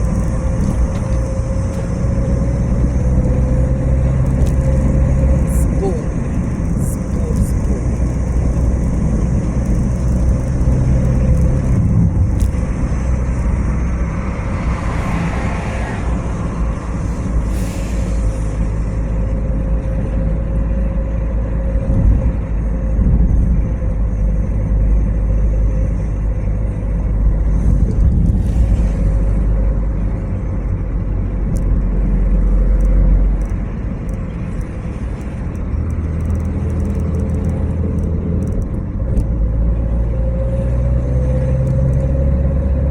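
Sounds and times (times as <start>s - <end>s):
car engine and tyre rumble: 0.0s - 42.9s.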